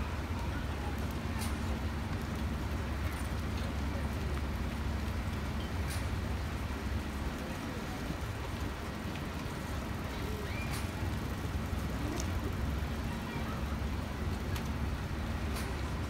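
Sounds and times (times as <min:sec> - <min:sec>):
faint voices: 0:00.0 - 0:16.0
low crowd rumble: 0:00.0 - 0:16.0.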